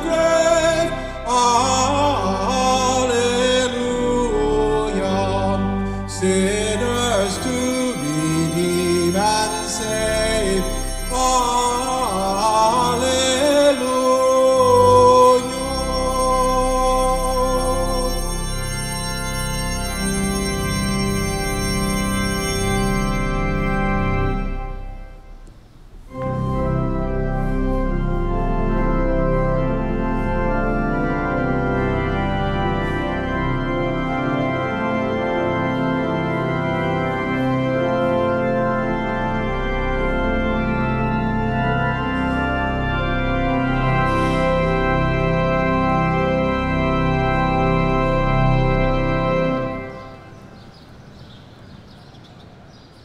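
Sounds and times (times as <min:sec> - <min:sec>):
church organ chords: 0:00.0 - 0:53.0.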